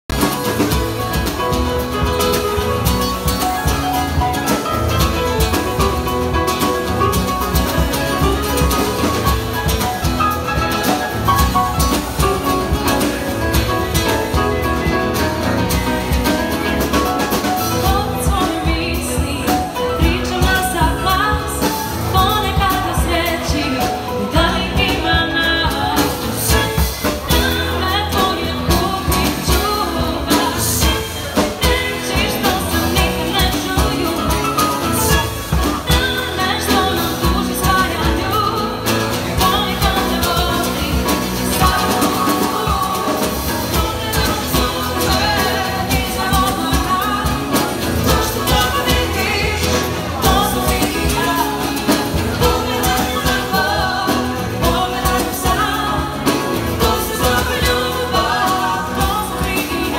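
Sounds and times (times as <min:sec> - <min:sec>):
acoustic guitar: 0:00.0 - 0:59.9
keyboard: 0:00.0 - 0:59.9
woman singing: 0:00.2 - 0:59.9.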